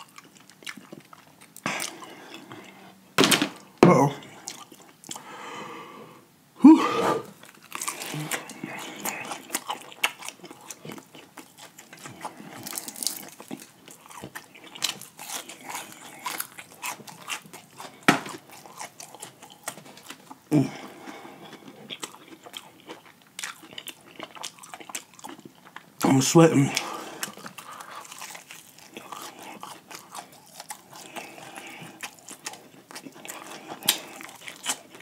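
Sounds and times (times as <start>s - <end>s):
crunchy chewing: 0.0s - 3.0s, 4.2s - 5.2s, 7.3s - 35.0s.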